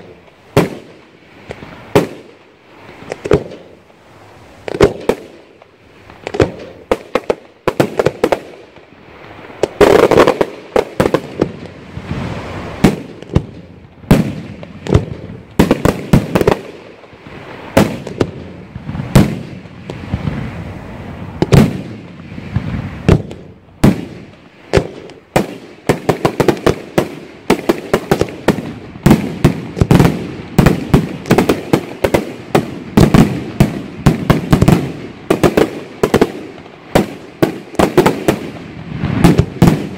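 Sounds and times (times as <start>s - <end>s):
fireworks bursting with sharp bangs: 0.0s - 39.9s.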